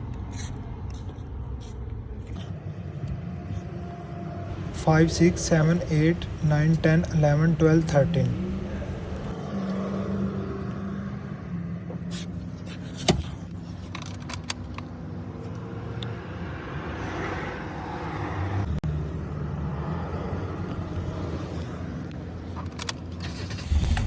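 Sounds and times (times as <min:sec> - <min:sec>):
car engine humming: 0:00.0 - 0:24.0.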